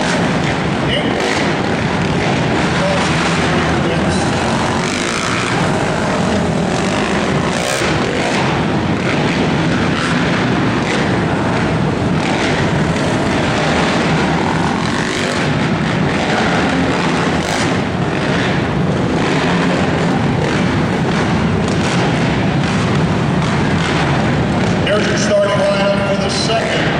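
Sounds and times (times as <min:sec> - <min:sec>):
quad bike engines revving: 0:00.0 - 0:26.9.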